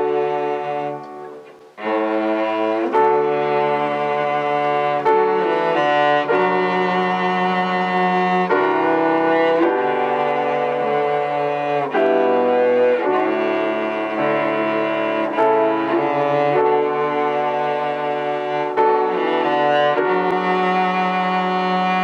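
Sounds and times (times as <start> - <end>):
slow sustained instrumental chords: 0.0 - 22.0.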